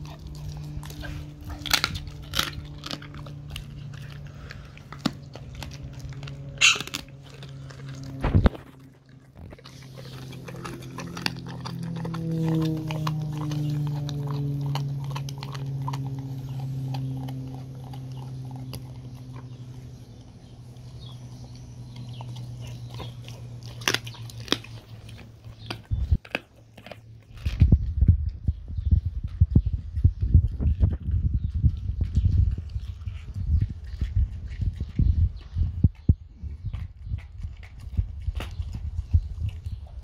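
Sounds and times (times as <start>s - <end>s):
dog chewing and crunching bone: 0.0s - 40.0s
low steady hum: 0.0s - 40.0s.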